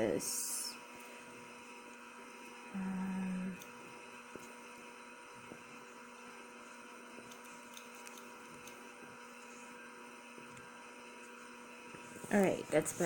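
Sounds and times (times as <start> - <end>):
faint electrical hum with hiss: 0.0 - 13.0.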